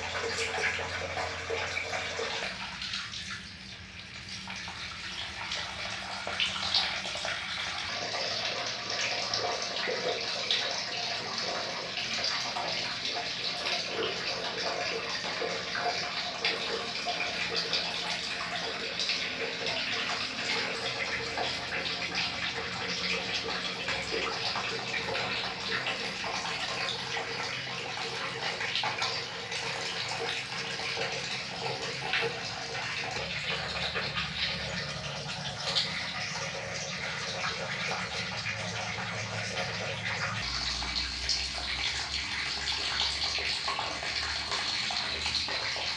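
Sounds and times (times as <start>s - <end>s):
running water pouring and splashing: 0.0s - 45.9s.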